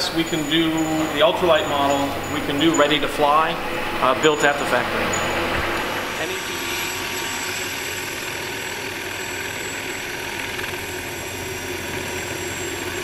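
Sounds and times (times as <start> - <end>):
helicopter engine and rotor: 0.0 - 13.0
high whine: 0.0 - 13.0.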